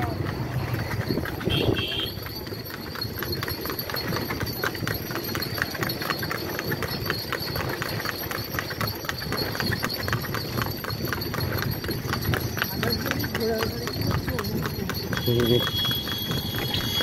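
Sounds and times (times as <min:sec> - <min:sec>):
horse hooves clip-clopping on pavement: 0:00.0 - 0:17.0.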